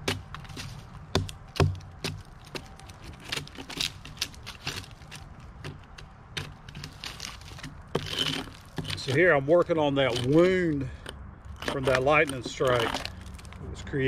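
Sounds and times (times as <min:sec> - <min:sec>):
hatchet chopping log: 0:00.0 - 0:13.1.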